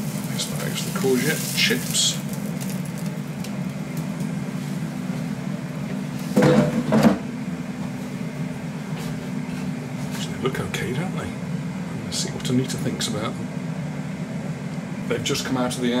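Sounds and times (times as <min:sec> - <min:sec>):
air fryer fan hum: 0:00.0 - 0:16.0.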